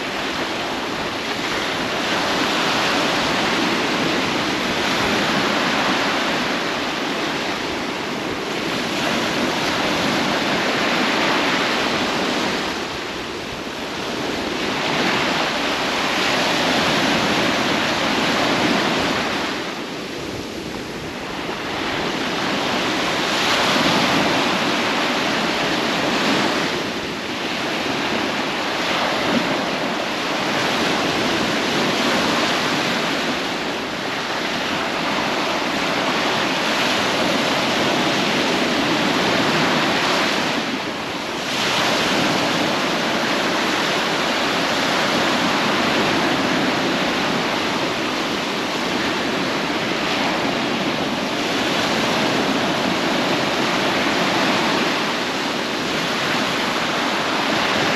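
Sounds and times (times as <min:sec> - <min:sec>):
sea surf washing onto beach: 0:00.0 - 0:57.9.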